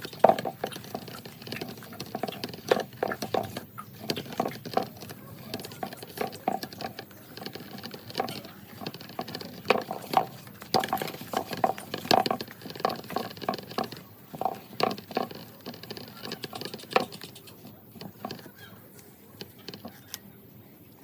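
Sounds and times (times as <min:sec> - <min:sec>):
crackles of dry fibre handled: 0:00.0 - 0:20.3.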